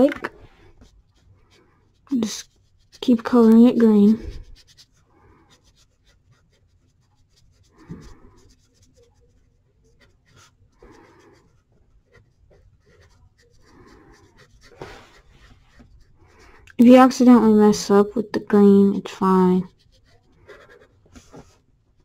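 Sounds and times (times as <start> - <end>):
colouring strokes scratching paper: 0.0 - 22.0.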